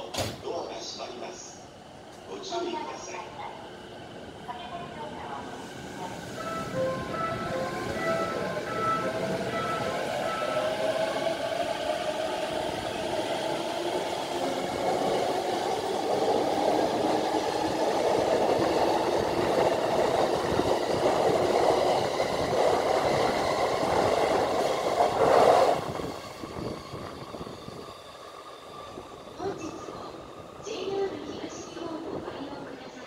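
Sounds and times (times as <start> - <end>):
train wheels rolling on rails: 4.1 - 33.0.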